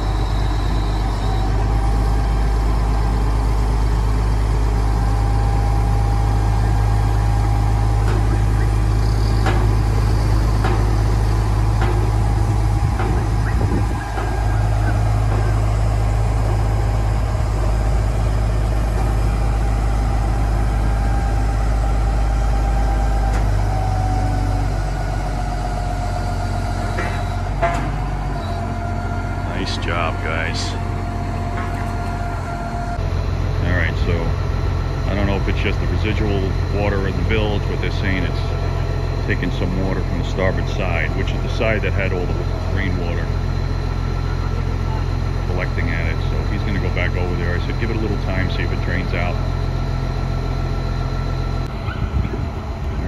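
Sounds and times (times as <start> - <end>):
low engine drone: 0.0 - 53.0
thin steady whine: 0.0 - 53.0.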